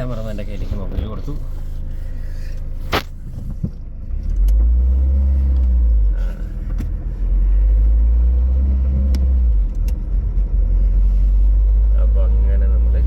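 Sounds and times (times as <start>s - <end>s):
car rumble with road noise: 0.0s - 13.0s.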